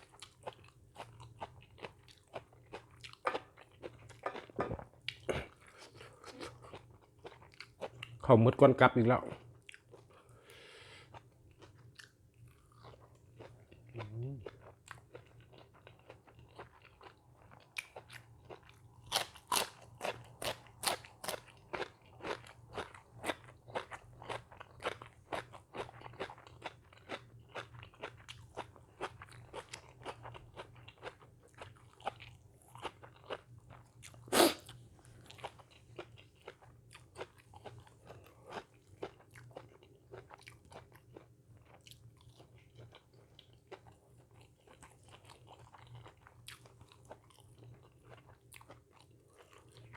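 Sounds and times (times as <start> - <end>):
person chewing crunchy food: 0.0 - 8.2, 9.2 - 49.9.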